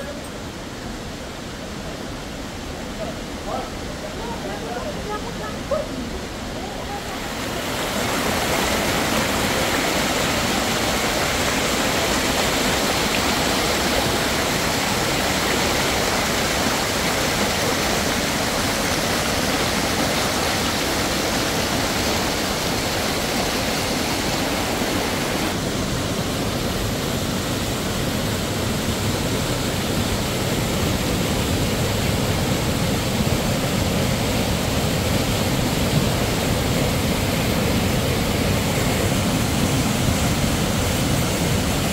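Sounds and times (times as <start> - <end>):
stream rushing over rocks: 0.0 - 41.9.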